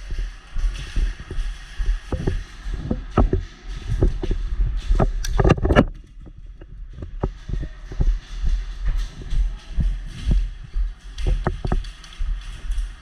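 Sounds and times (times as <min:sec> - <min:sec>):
knocks and clatter: 0:00.0 - 0:13.0
microphone handling rumble: 0:00.0 - 0:13.0.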